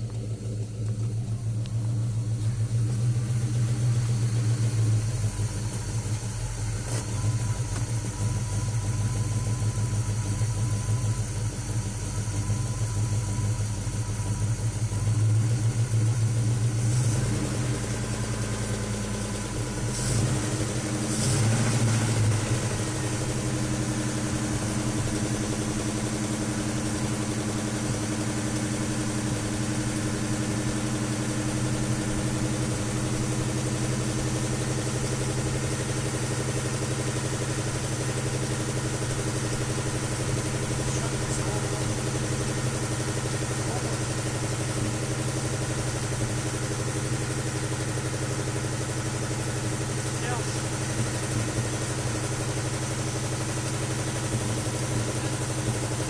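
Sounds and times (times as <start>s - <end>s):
car engine idling: 0.0s - 56.0s
engine knocking: 0.0s - 56.0s.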